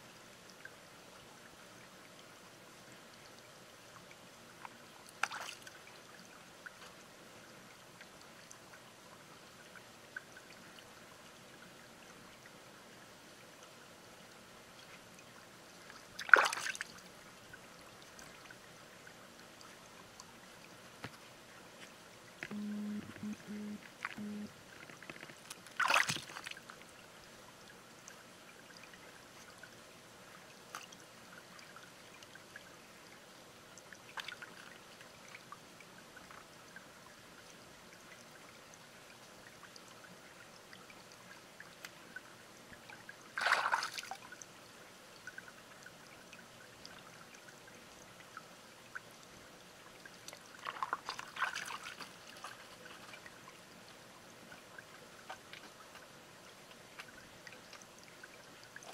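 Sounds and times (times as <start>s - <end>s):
stream trickling: 0.0s - 58.9s.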